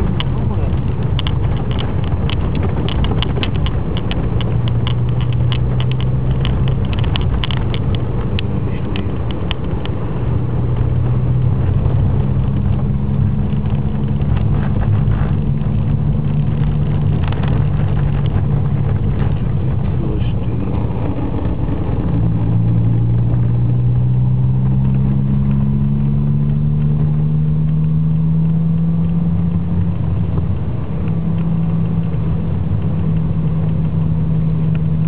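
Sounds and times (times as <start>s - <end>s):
car engine and tyre noise on snow: 0.0s - 35.0s
sharp clicks and crackles: 0.0s - 35.0s.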